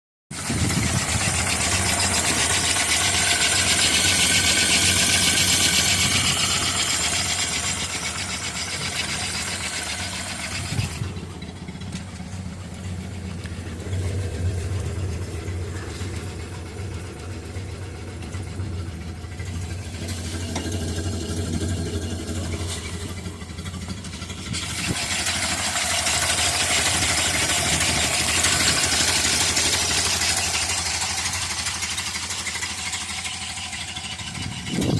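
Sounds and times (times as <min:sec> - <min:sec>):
engine idling: 0:00.3 - 0:34.9.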